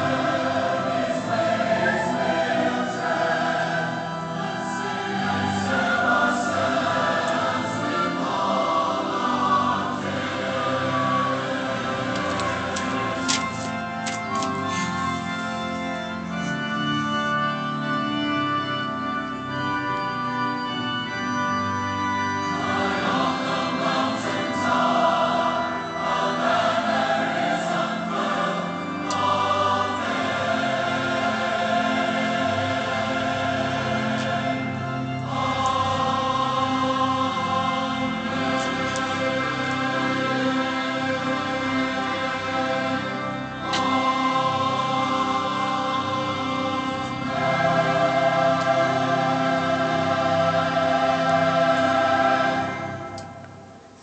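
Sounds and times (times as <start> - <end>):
instrumental accompaniment: 0.0 - 54.0
voices singing a hymn: 0.0 - 54.0.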